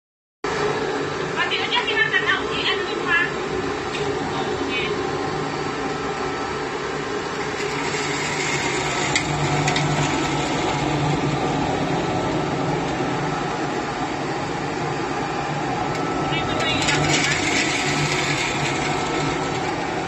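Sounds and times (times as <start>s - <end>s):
machine motor hum: 0.5s - 20.0s.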